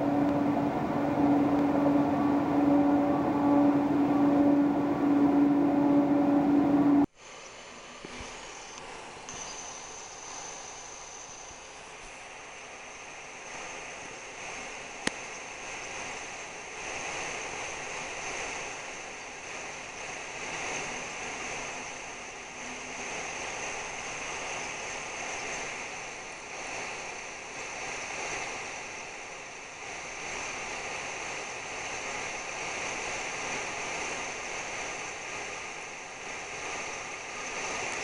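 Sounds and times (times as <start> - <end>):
steady rushing hiss: 0.0 - 38.0.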